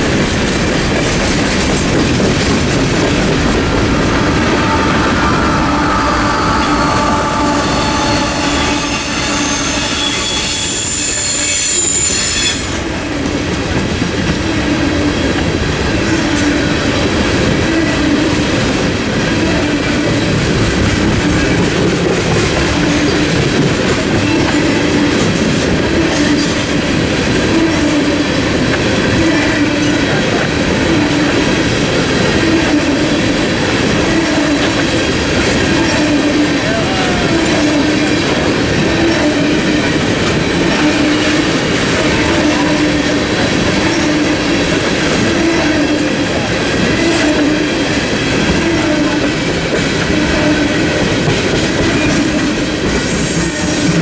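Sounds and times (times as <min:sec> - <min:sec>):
diesel locomotive whine: 0:00.0 - 0:54.0
train wheels rhythmic clatter: 0:00.0 - 0:54.0.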